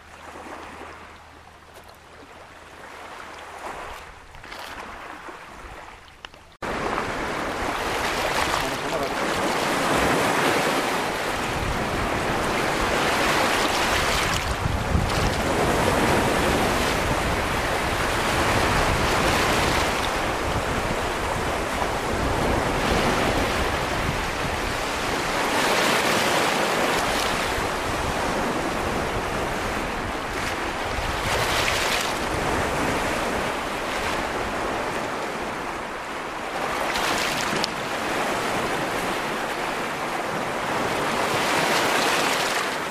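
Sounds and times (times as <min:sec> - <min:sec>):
waves washing over pebbles: 0:06.6 - 0:34.8, 0:36.5 - 0:42.9.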